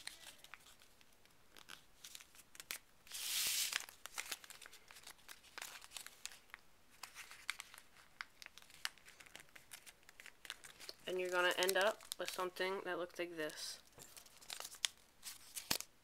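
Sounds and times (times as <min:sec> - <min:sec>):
paper being folded and creased: 0:00.0 - 0:12.4, 0:13.9 - 0:15.9.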